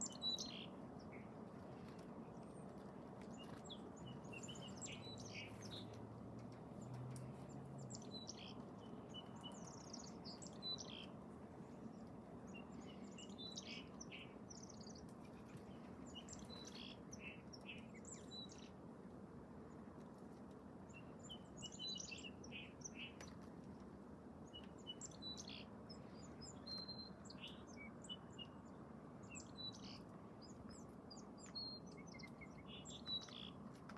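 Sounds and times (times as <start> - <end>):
small birds chirping: 0.0 - 18.8, 19.7 - 33.9
low outdoor background hiss: 0.0 - 33.9.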